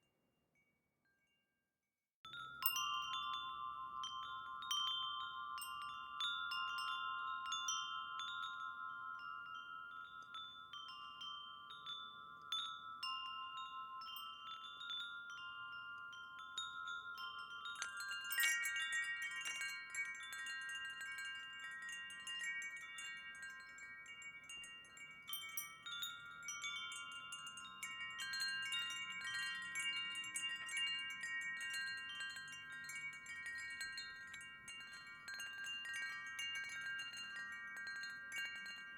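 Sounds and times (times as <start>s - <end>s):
wind chime ringing: 2.3s - 38.9s.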